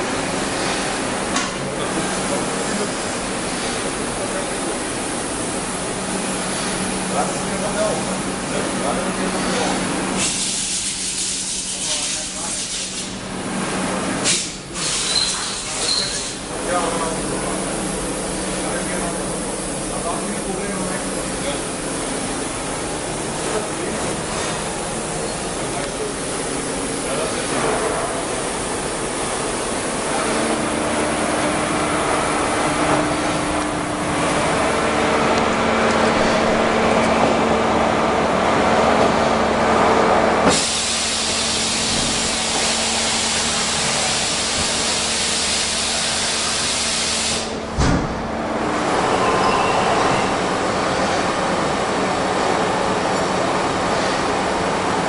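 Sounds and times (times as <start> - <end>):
machining center hiss and hum: 0.0 - 55.0.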